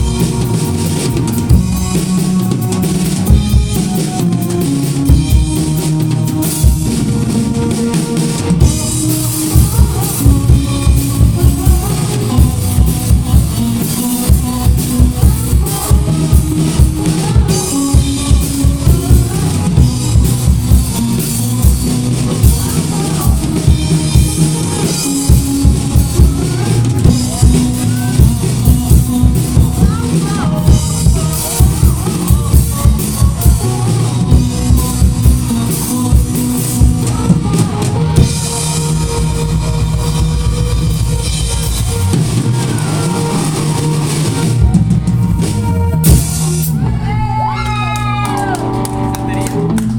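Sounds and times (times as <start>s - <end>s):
repeating bass line: 0.0s - 47.5s
rock band playing: 0.0s - 49.9s.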